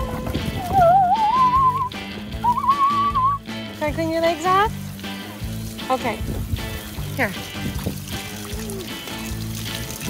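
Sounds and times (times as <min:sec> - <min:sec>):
background music with bass notes: 0:00.0 - 0:10.0
hose water splashing: 0:00.0 - 0:10.0.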